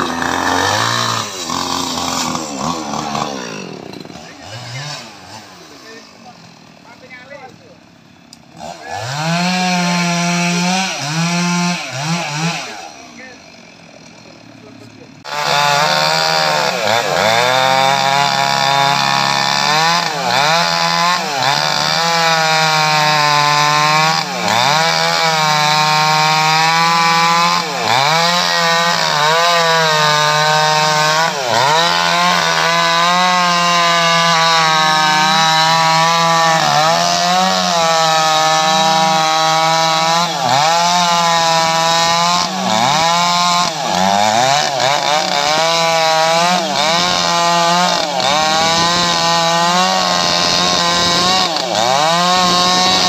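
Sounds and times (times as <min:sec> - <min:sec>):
chainsaw cutting a log: 0:00.0 - 0:53.0.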